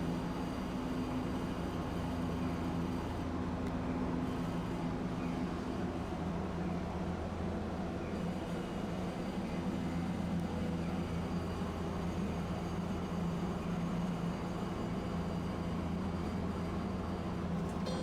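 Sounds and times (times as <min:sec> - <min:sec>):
streetcar humming and rumbling: 0:00.0 - 0:18.0.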